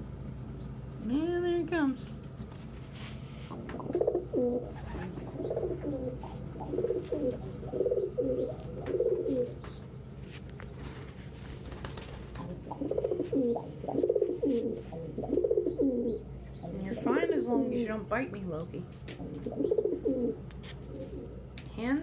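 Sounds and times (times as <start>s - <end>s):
pigeons cooing: 2.7s - 18.1s, 19.1s - 21.5s.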